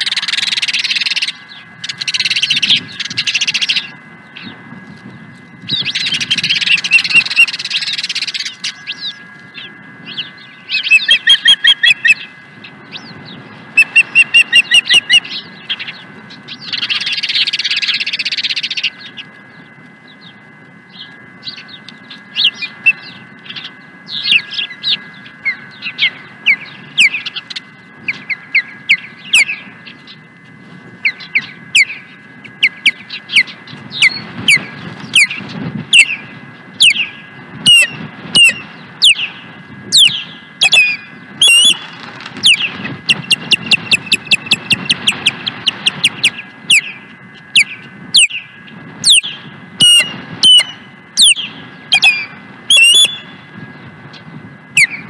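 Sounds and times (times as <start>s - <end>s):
ospreys whistled chirps: 0.0s - 30.4s, 31.0s - 55.0s.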